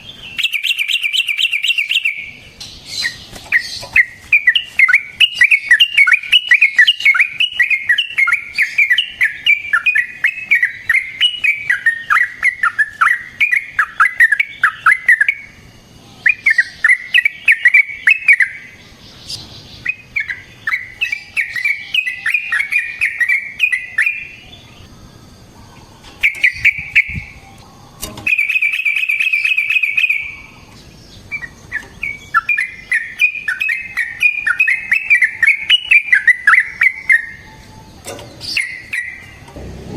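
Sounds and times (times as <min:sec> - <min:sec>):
bird singing whistled notes: 0:00.0 - 0:25.4, 0:26.2 - 0:39.5.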